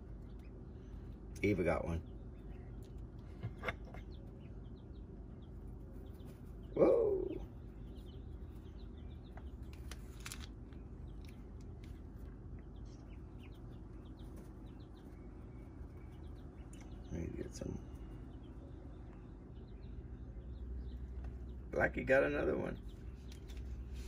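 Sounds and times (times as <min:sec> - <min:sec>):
chicks and ducklings peeping: 0:00.0 - 0:24.0
steady low hum: 0:00.0 - 0:24.0.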